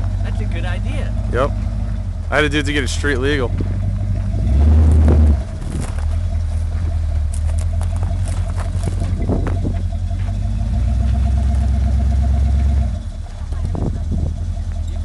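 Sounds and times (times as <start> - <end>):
engine deep rumble: 0.0 - 15.0.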